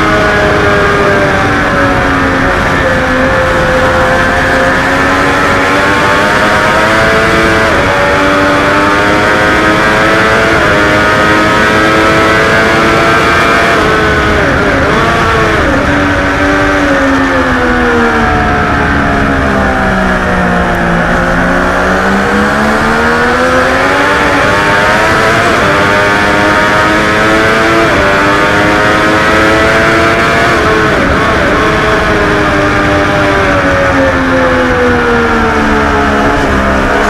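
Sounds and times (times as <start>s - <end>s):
motorcycle engine at race speed: 0.0s - 37.0s
wind rush: 0.0s - 37.0s.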